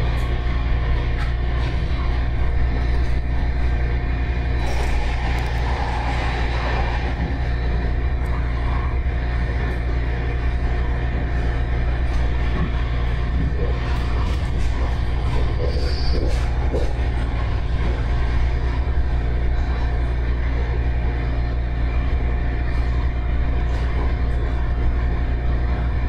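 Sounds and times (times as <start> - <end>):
steady humming tones: 0.0 - 26.0
train car rumbling at speed: 0.0 - 26.0.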